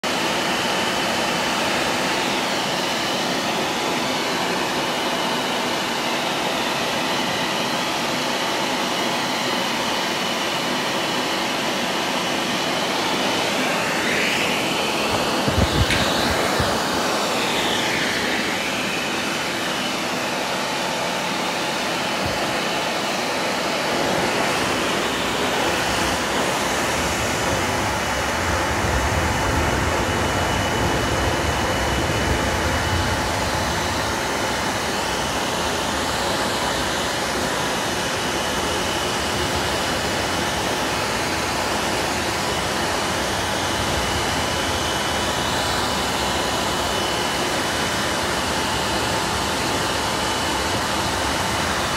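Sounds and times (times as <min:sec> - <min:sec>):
pet blow dryer running: 0:00.0 - 0:51.9.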